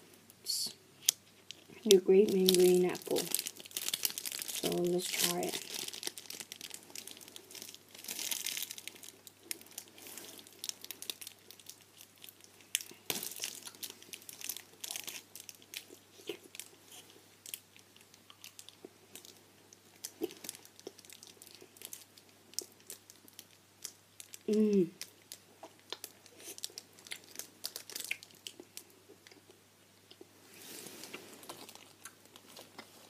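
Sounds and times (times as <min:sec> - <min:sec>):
wrapper crinkling: 0:01.0 - 0:29.4, 0:30.6 - 0:33.0
boy chewing taffy: 0:01.0 - 0:33.0.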